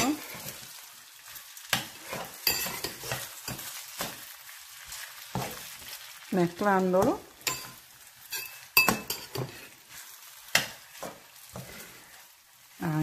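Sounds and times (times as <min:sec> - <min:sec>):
metal spoon scraping a pan: 0:00.0 - 0:06.2, 0:06.8 - 0:12.4
rice sizzling in a frying pan: 0:00.0 - 0:13.0.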